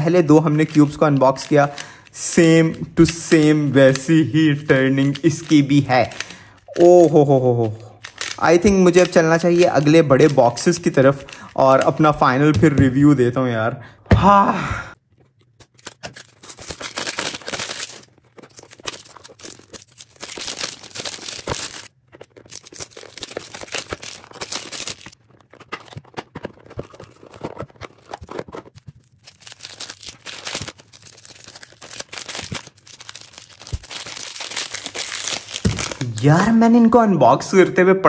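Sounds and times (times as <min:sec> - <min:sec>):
plastic wrap crinkling and tearing: 0:00.0 - 0:12.5, 0:15.0 - 0:36.8.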